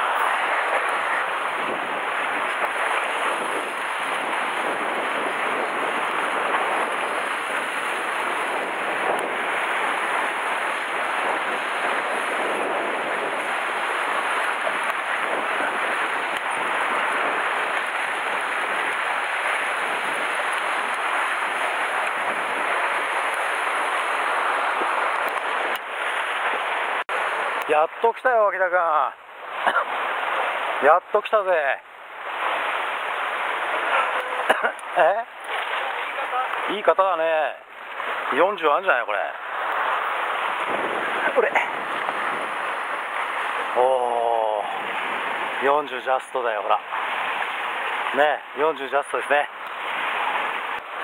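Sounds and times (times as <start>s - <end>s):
surf breaking on rocky shore: 0.0s - 51.0s.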